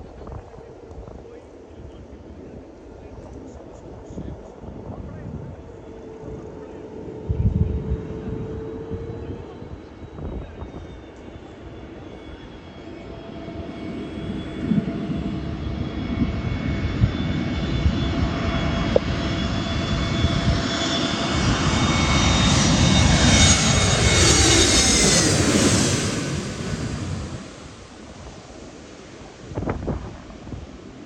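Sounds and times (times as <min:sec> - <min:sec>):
jet airliner passing overhead: 0:00.0 - 0:31.0.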